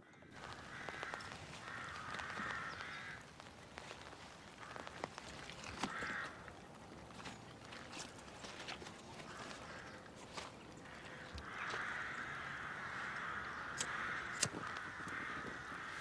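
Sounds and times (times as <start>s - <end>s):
crows cawing: 0.0s - 16.0s
outdoor background noise: 0.0s - 16.0s.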